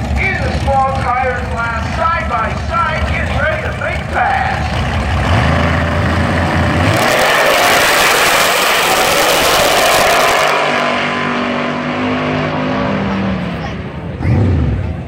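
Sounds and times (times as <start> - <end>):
drag racing engines: 0.0 - 15.0.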